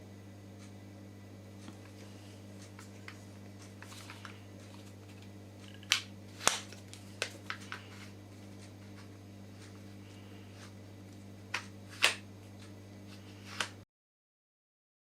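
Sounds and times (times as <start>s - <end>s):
low electrical hum: 0.0s - 13.8s.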